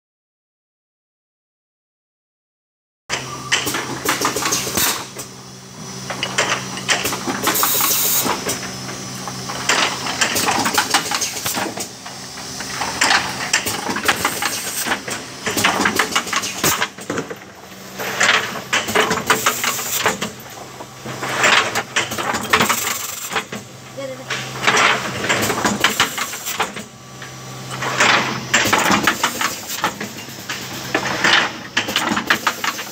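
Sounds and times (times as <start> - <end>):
machine motor hum: 3.2 - 32.9.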